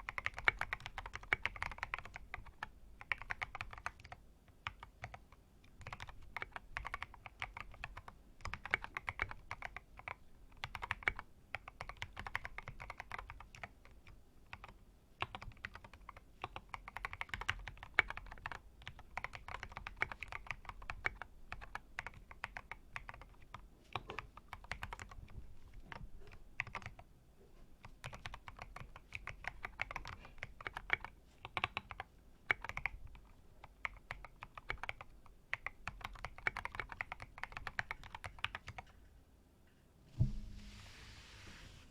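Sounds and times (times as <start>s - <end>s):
mechanical keyboard typing: 0.0s - 25.3s, 26.3s - 27.0s, 27.8s - 38.9s.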